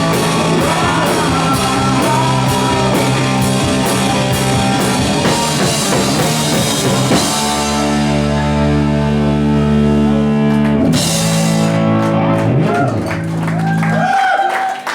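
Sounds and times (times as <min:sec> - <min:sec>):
live rock band playing: 0:00.0 - 0:13.8.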